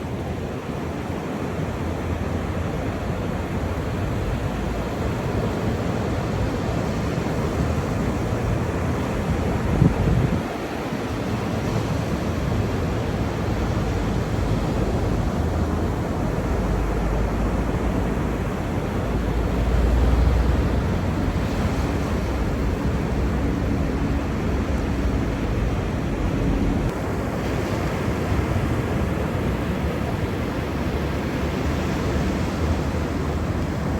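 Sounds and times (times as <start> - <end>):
ocean surf washing: 0.0 - 33.9
wind buffeting microphone: 3.6 - 33.9.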